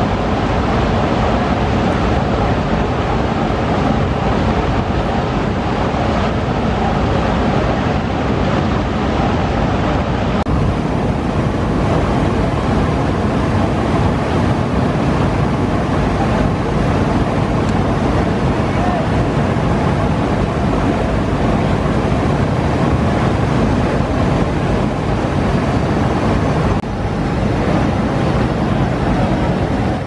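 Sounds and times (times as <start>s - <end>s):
boat engines droning: 0.0s - 30.0s.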